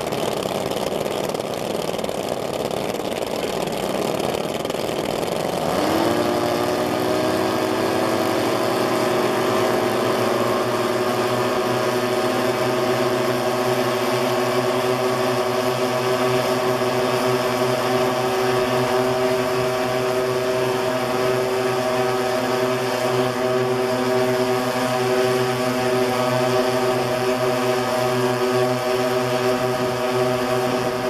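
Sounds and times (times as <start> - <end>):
model aircraft engines running: 0.0 - 31.0.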